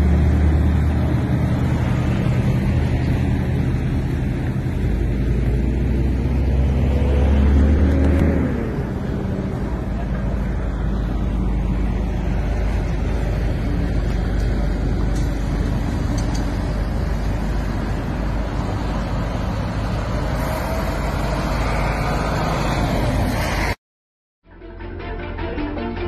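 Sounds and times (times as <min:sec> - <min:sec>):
bus passing: 0:00.0 - 0:23.8
road traffic passing: 0:00.0 - 0:23.8.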